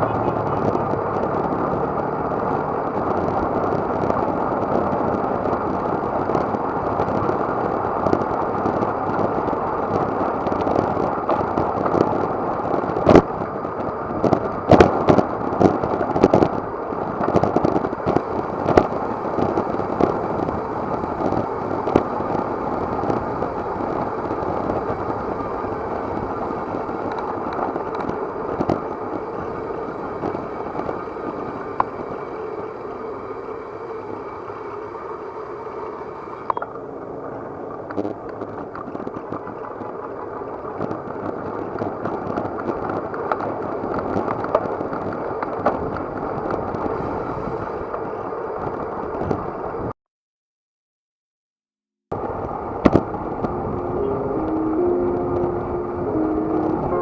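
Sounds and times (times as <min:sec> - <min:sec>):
bike knocking and rattling: 0:00.0 - 0:49.5
road noise: 0:00.0 - 0:49.9, 0:52.1 - 0:57.0.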